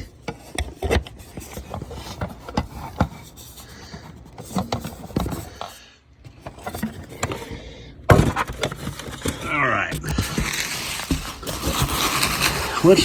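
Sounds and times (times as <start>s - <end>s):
rubbing and rustling: 0.0s - 7.5s, 10.0s - 13.0s.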